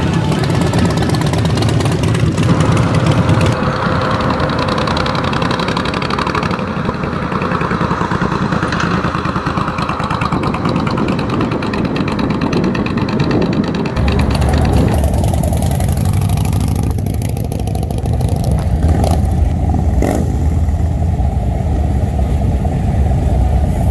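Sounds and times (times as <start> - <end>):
motorcycle engine throbbing: 0.0 - 23.9.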